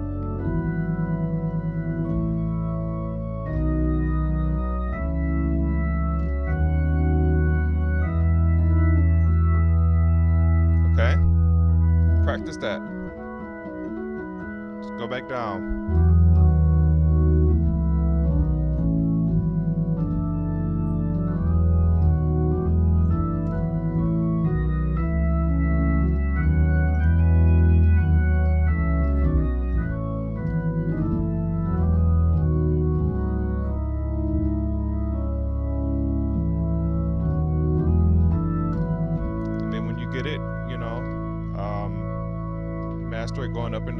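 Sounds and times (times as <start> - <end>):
bass line: 0.0 - 43.9
organ playing chords: 0.0 - 43.9.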